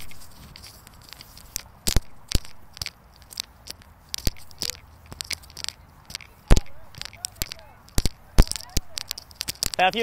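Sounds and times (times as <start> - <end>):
sharp clicks and crunches: 0.0 - 10.0.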